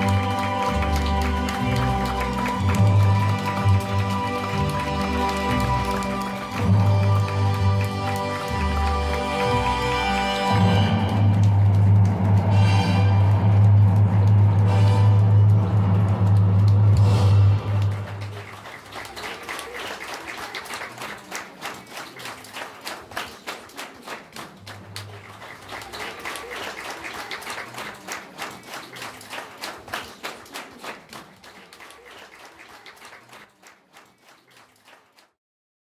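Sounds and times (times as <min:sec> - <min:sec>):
audience applauding: 0:00.0 - 0:35.4.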